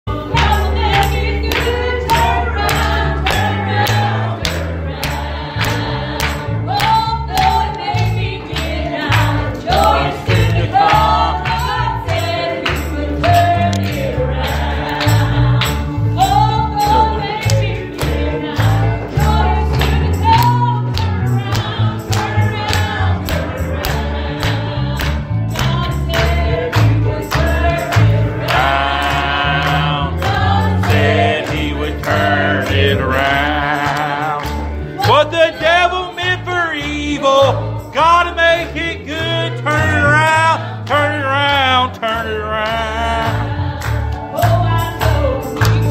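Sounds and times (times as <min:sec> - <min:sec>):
gospel voices singing over beat: 0:00.1 - 0:45.9.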